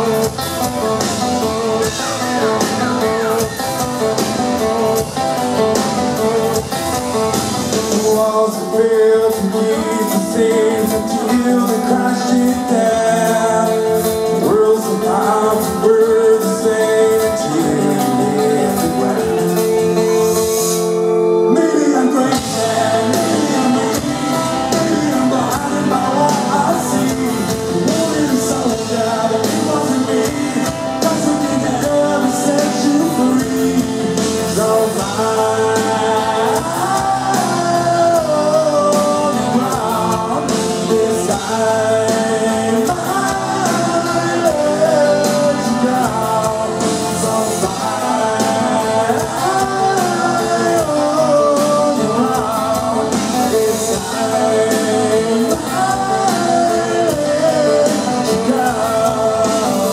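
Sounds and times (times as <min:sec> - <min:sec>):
electric guitar: 0:00.0 - 0:59.9
man singing: 0:00.0 - 0:59.9
rock band playing live: 0:00.0 - 0:59.9.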